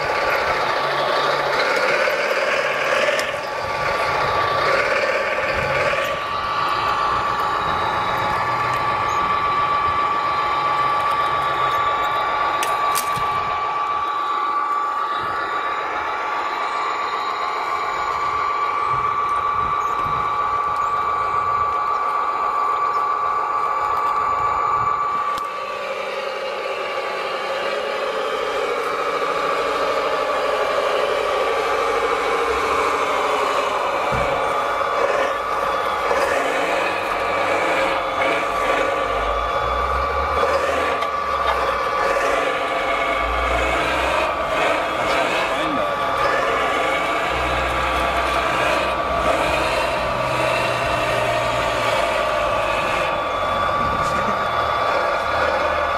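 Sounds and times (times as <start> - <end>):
small motor whining: 0.0 - 55.9.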